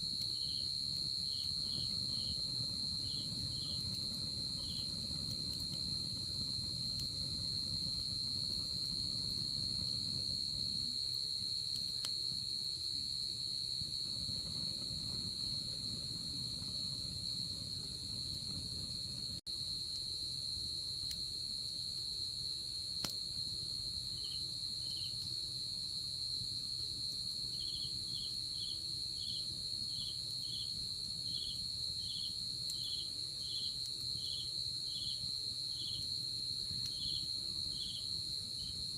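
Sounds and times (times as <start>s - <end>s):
campfire crackling: 0.0s - 19.4s, 27.0s - 38.9s.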